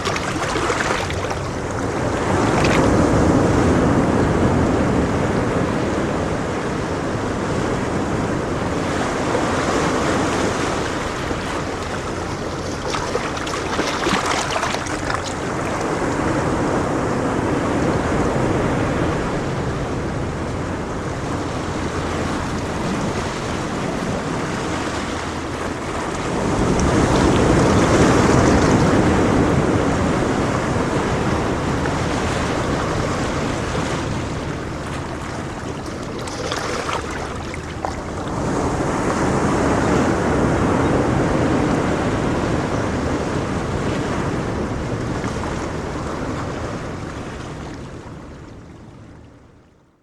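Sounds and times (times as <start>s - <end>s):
wind on microphone: 0.0s - 49.1s
sea waves breaking on beach: 0.0s - 49.2s.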